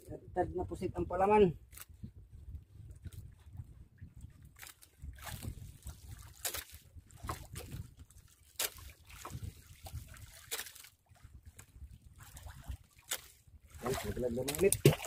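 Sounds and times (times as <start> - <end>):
sea water sloshing around boat: 2.7 - 15.0.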